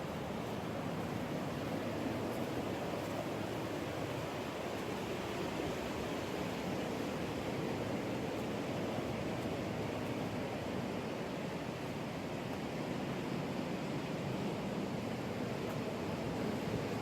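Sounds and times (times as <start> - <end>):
ocean surf washing ashore: 0.0 - 17.0.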